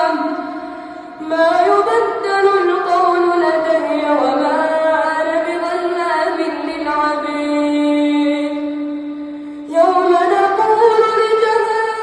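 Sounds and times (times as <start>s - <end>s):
boy reciting in melodic chant: 0.0s - 12.0s.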